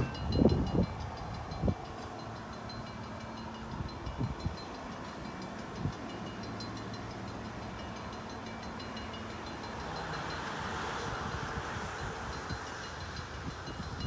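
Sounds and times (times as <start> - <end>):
train engine hum: 0.0 - 14.0.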